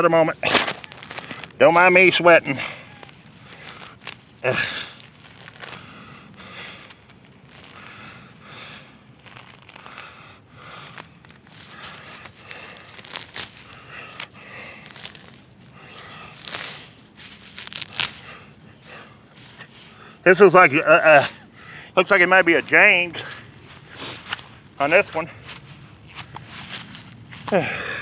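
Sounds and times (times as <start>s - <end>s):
hand scraping dirt and needles: 0.0s - 28.0s
heavy breathing: 2.4s - 20.4s, 21.0s - 22.0s, 23.1s - 28.0s.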